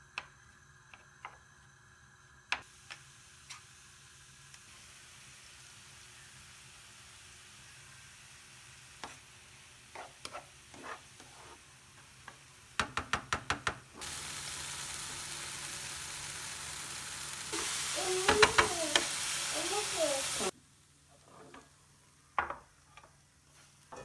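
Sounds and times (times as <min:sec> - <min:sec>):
food sizzling in a pan: 0:02.1 - 0:24.0.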